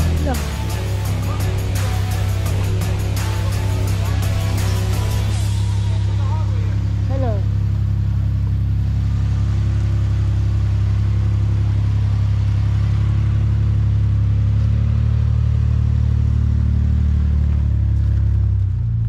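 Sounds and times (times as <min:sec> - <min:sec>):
truck engine at low revs: 0:00.0 - 0:19.0.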